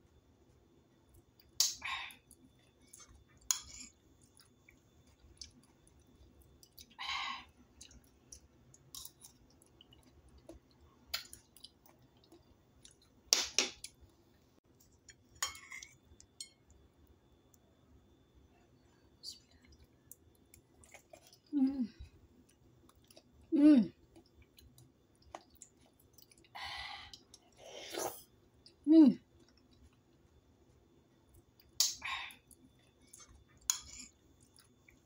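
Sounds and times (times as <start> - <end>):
quiet chewing: 1.0 - 13.2, 18.5 - 35.0.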